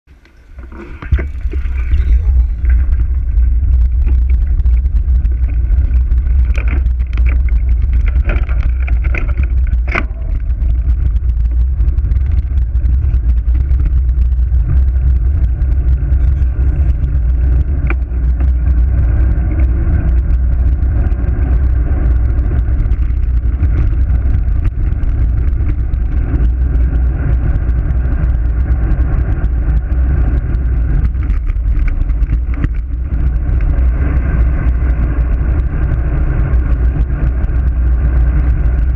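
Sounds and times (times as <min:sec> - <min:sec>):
wind buffeting microphone: 0:00.1 - 0:38.9.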